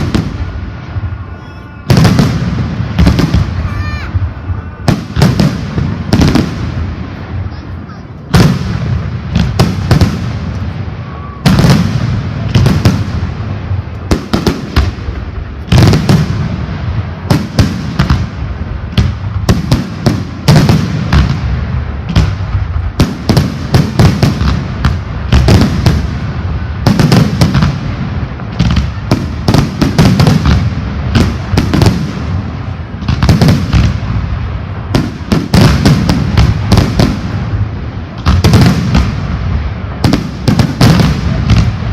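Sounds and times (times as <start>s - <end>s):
fireworks bursts and booms: 0.0s - 41.9s.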